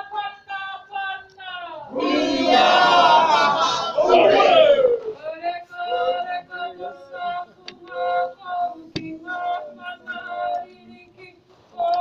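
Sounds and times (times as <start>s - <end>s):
group of voices singing: 1.8s - 12.0s.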